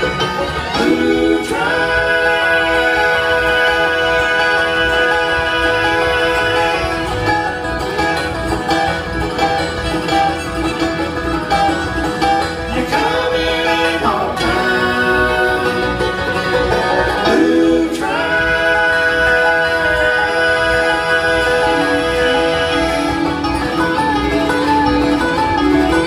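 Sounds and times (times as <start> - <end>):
bluegrass band playing: 0.0 - 26.0.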